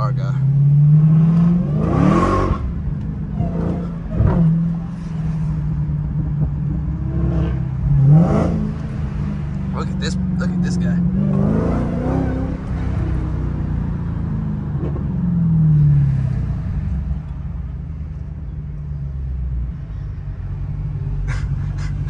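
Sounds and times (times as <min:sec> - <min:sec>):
car engine droning in cabin: 0:00.0 - 0:22.0.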